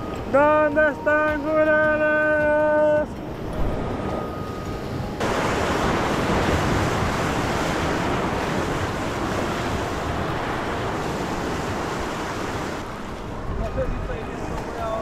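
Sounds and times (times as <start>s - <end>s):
ocean surf rushing on shore: 0.0s - 15.0s
wind buffeting microphone: 1.2s - 15.0s.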